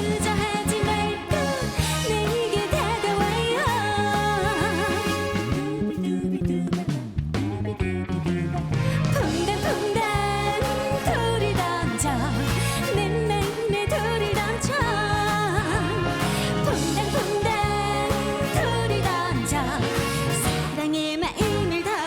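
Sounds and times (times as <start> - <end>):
woman singing with vibrato: 0.0 - 7.8, 9.1 - 22.0
band accompaniment with bass beat: 0.0 - 22.0.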